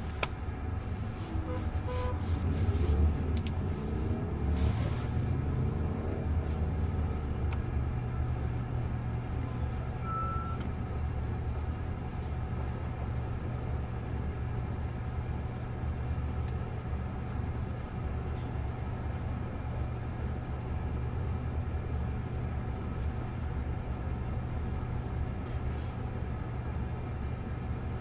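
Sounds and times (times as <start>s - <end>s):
idling traffic rumble: 0.0s - 28.0s.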